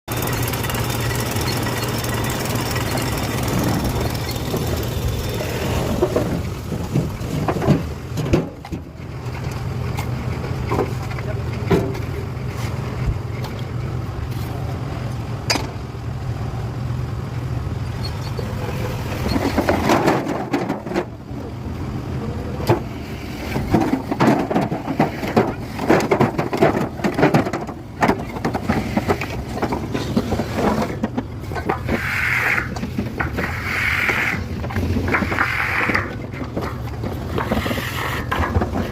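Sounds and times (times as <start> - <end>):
engine humming: 0.0 - 38.9
knocks and clatter: 0.1 - 13.7, 18.9 - 21.2, 23.5 - 38.9.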